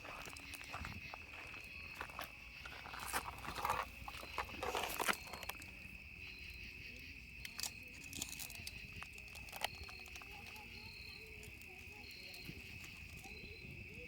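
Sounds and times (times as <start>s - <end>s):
close crunching and rustling: 0.0s - 6.1s, 7.4s - 14.0s
insects chirring: 0.0s - 14.0s.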